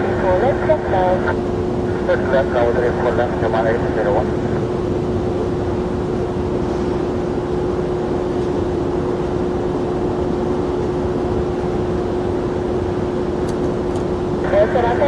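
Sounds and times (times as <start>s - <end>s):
jet engines rumbling and whining: 0.0s - 15.0s.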